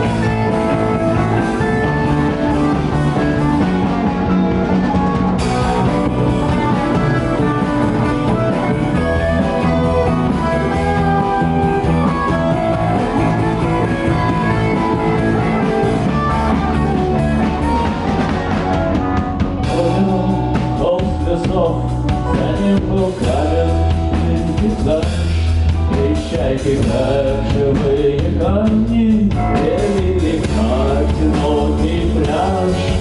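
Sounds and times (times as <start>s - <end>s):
bass guitar: 0.0s - 33.0s
drum kit: 0.0s - 33.0s
electric guitar: 0.0s - 33.0s.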